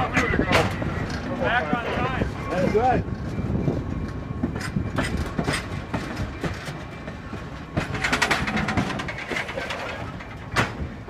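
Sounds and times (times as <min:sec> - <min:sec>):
train low rumble: 0:00.0 - 0:11.0
train wheels clicking over rail joints: 0:00.0 - 0:11.0.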